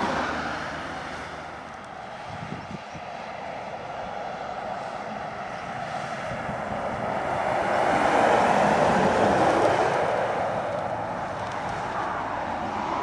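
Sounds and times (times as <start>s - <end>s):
heavy lorry climbing hill: 0.0s - 13.0s.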